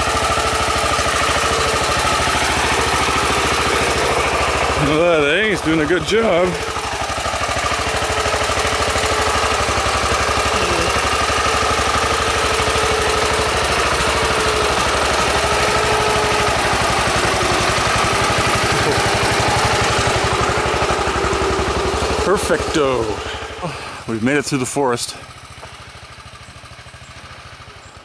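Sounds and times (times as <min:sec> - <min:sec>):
tractor engine chugging: 0:00.0 - 0:28.0.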